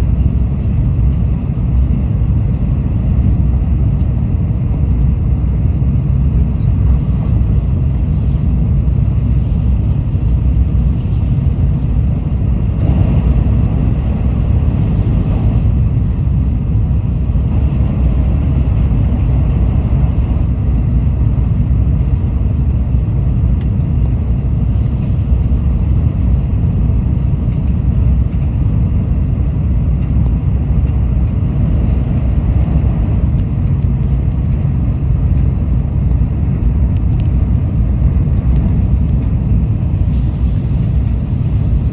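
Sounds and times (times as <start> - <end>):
bullet train low rumble: 0.0 - 41.9.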